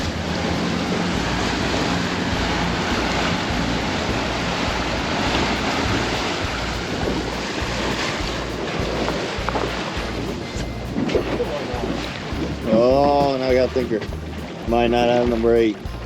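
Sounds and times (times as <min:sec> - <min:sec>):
water washing around boat: 0:00.0 - 0:16.0
wind buffeting microphone: 0:00.0 - 0:16.0.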